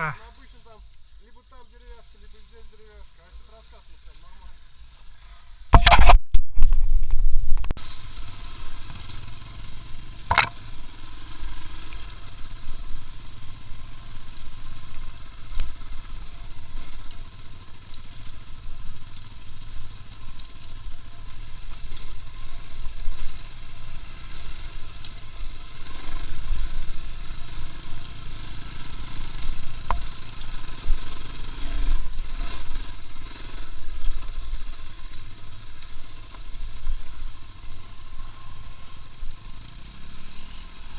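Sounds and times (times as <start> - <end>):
motor vehicle rumble and hiss: 0.0 - 5.7, 7.8 - 40.9.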